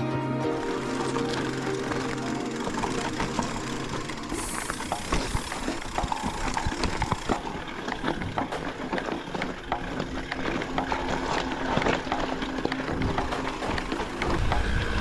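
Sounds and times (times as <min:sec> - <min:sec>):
bike clattering over rocks: 0:00.6 - 0:15.0.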